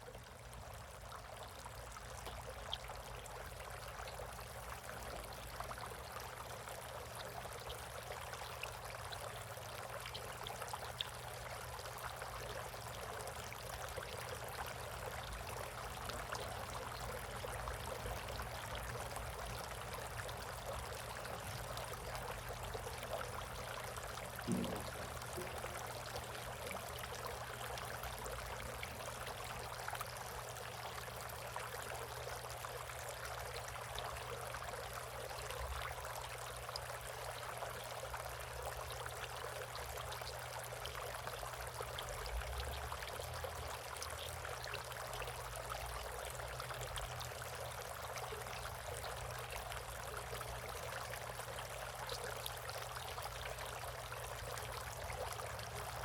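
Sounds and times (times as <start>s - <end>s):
water trickling into bird bath: 0.0s - 56.0s.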